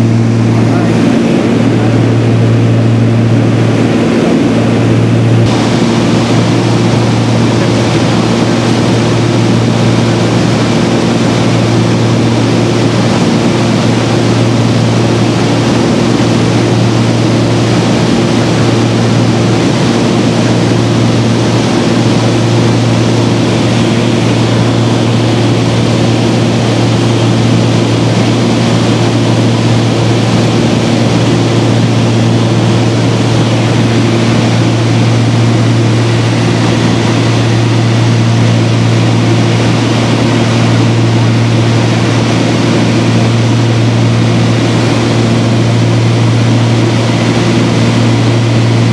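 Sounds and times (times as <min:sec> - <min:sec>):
aircraft engines droning in cabin: 0:00.0 - 0:48.9.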